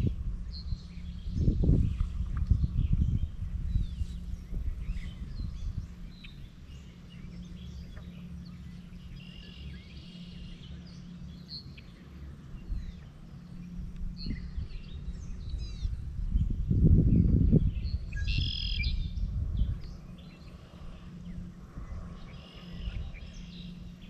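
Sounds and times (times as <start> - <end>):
low steady rumble: 0.0 - 24.0
songbirds chirping: 0.0 - 24.0.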